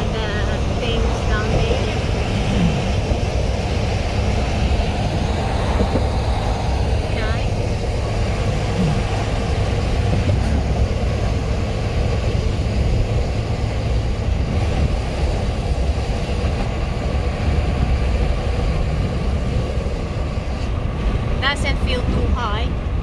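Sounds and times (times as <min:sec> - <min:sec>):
car cabin road rumble: 0:00.0 - 0:23.0.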